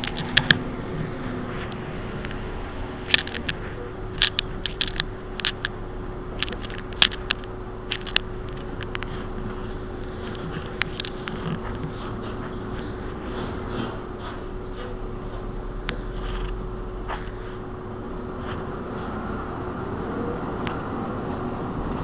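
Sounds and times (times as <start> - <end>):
bus engine idling: 0.0 - 22.0.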